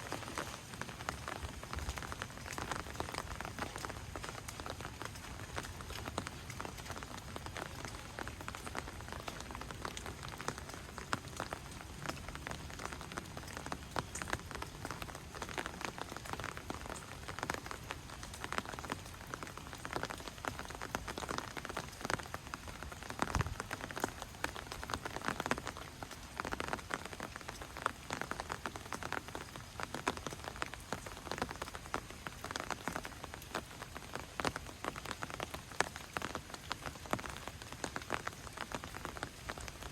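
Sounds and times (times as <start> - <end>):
rain falling: 0.0 - 39.9
raindrops tapping: 0.0 - 39.9.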